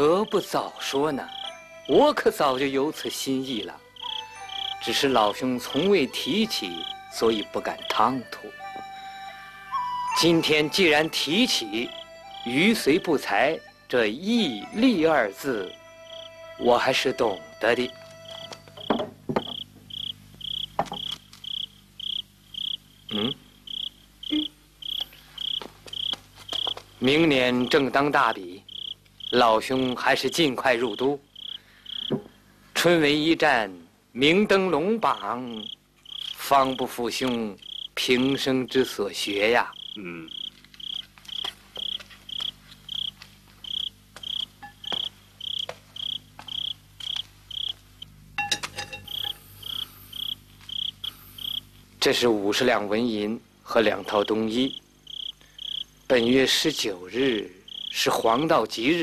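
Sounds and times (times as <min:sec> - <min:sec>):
cricket chirping: 0:00.0 - 0:08.2, 0:09.7 - 0:13.1, 0:14.4 - 0:32.4, 0:35.0 - 0:59.0.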